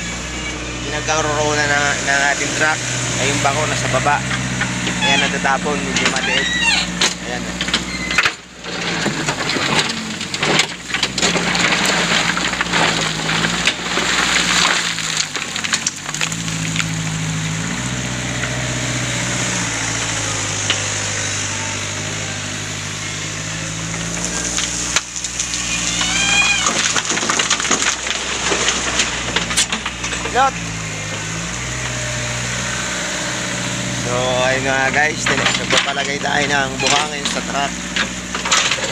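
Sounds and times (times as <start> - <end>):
backhoe engine under load: 0.0 - 38.9
sand and stones clattering: 1.1 - 38.9.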